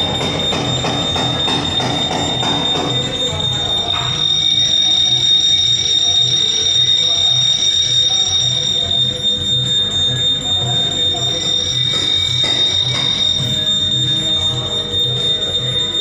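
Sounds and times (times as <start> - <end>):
high-pitched electronic alarm tone: 0.0 - 16.0.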